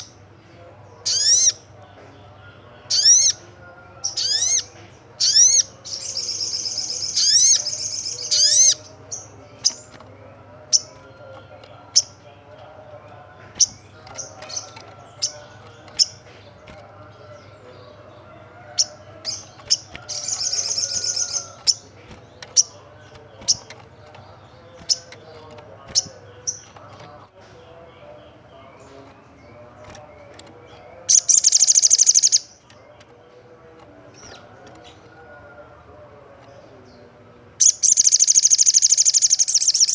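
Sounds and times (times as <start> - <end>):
bird chirping and trilling: 1.0 - 1.8, 2.5 - 33.3, 36.6 - 39.9.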